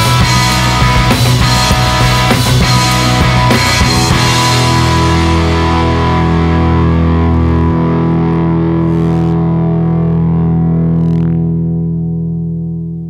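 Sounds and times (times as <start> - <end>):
distorted electric guitar chord: 0.0 - 13.0.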